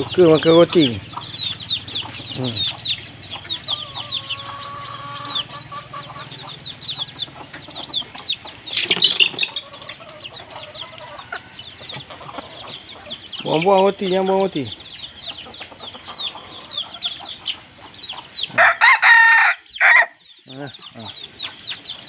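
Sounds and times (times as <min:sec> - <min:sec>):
chickens clucking: 0:00.0 - 0:22.0
chicks peeping: 0:00.0 - 0:22.0.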